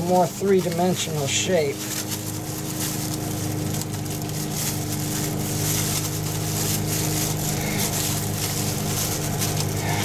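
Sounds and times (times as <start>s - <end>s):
cloth rustling under gloved hands: 0.0s - 10.0s
steady machine hum: 0.0s - 10.0s.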